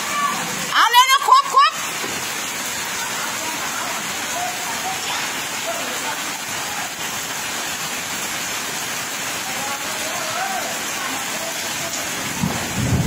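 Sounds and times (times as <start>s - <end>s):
heavy rain on flooded ground: 0.0s - 13.0s.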